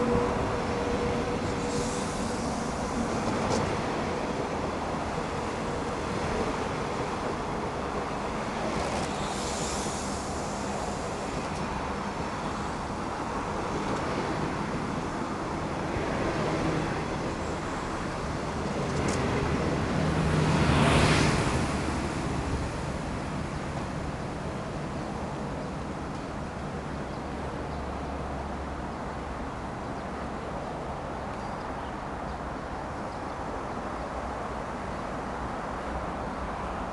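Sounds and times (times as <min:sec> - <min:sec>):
passenger train rushing past: 0:00.0 - 0:36.9.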